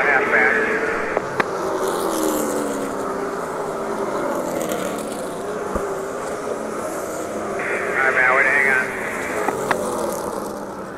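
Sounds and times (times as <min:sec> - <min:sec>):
race car engines: 0:00.0 - 0:10.9.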